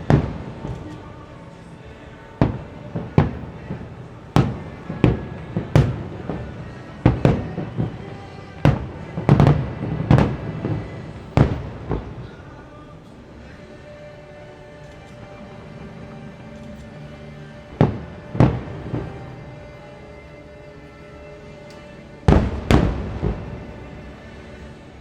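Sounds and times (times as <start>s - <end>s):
fireworks booming with echo: 0.0s - 25.0s.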